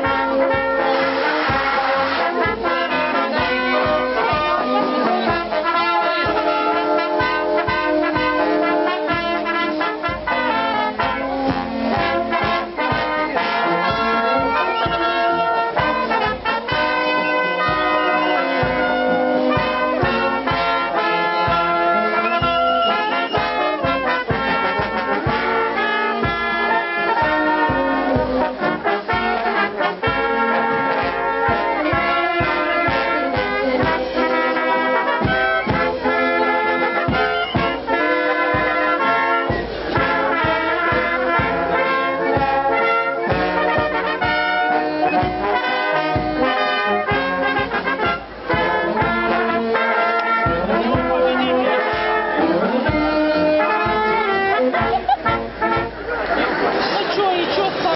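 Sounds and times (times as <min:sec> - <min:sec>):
brass band playing: 0:00.0 - 0:57.9.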